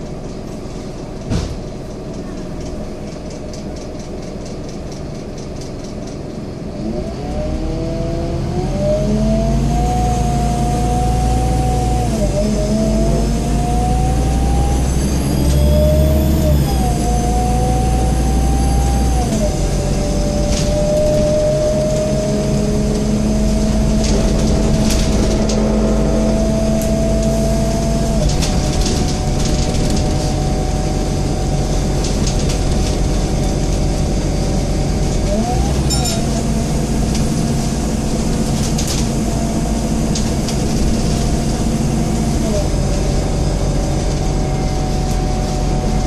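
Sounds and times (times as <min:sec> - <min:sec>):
bus engine hum: 0:00.0 - 0:46.0
drivetrain whine: 0:00.0 - 0:46.0.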